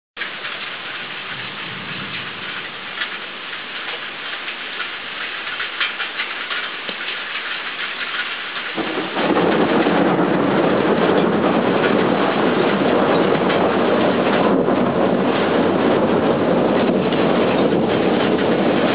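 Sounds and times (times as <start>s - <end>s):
drops dripping from roof: 0.2s - 18.9s
rain hissing: 0.2s - 18.9s
thunder rumble: 0.2s - 18.9s.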